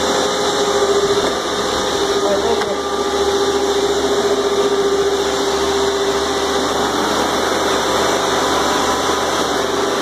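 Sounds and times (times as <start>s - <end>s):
wet dry vacuum motor whine: 0.0s - 10.0s.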